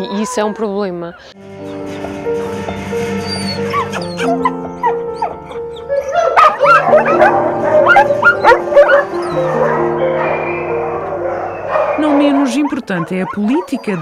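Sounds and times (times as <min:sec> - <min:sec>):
dogs barking and yelping: 0:00.0 - 0:14.0
background music: 0:01.4 - 0:14.0.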